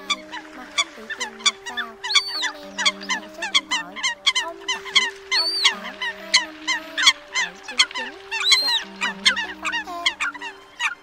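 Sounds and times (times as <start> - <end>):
coots calling: 0.0 - 11.0.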